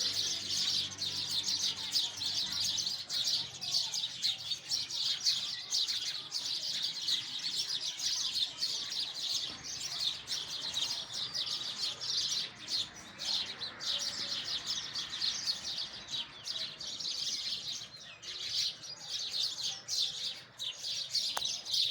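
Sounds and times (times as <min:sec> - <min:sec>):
sparrows chirping: 0:00.0 - 0:21.9.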